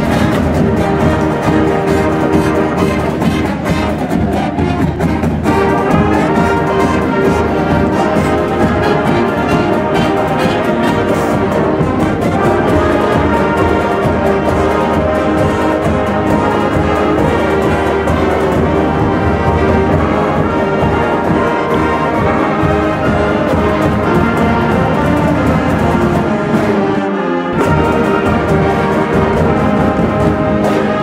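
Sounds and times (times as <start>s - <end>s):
orchestral music with brass: 0.0s - 31.0s.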